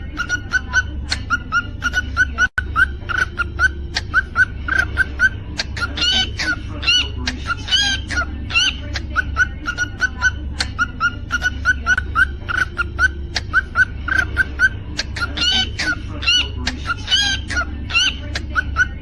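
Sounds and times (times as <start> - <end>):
cockatiel chirping: 0.0 - 19.0
cockatiel whistled song: 0.2 - 19.0.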